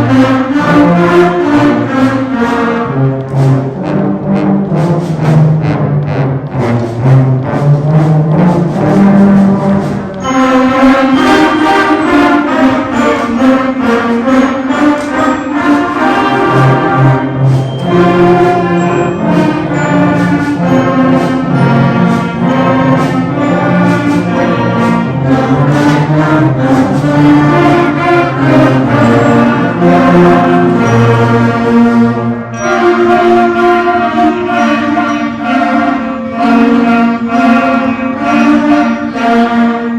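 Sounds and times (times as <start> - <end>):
brass-led ensemble music: 0.0 - 39.9.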